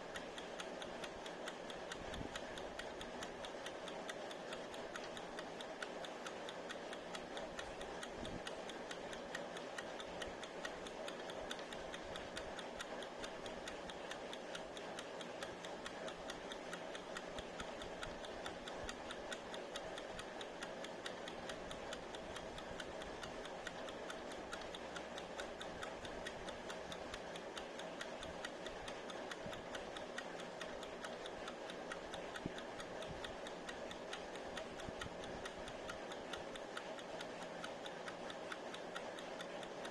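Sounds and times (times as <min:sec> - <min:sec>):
kitchen timer ticking rapidly: 0:00.0 - 0:39.9.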